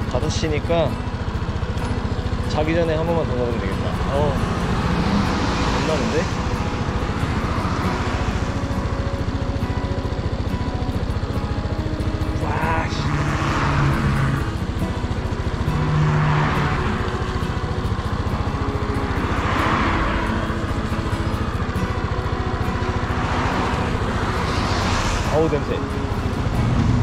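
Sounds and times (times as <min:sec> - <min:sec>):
low engine rumble: 0:00.0 - 0:27.0
vehicles passing close by: 0:00.0 - 0:27.0.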